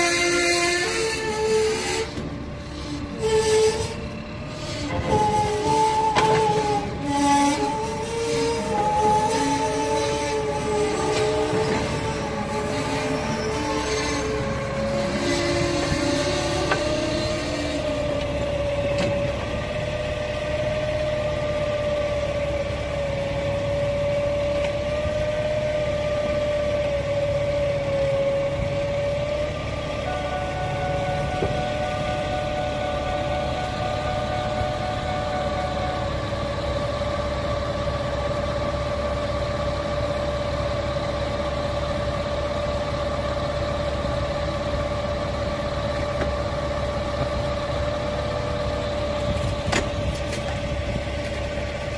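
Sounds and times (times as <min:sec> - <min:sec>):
higher engine whine: 0:00.0 - 0:51.9
train diesel engine running: 0:00.0 - 0:51.9.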